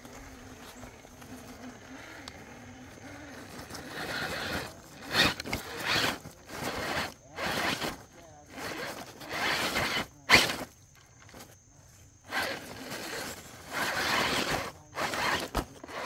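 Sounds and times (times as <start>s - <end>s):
rc car motor whirring: 0.0s - 16.0s.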